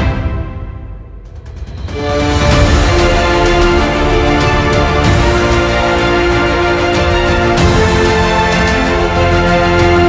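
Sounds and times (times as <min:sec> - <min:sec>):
cinematic background music: 0:00.0 - 0:10.0.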